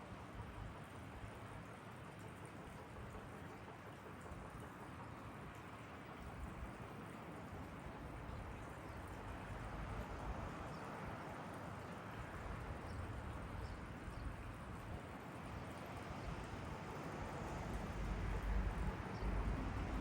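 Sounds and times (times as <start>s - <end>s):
outdoor background rumble and hiss: 0.0s - 20.0s.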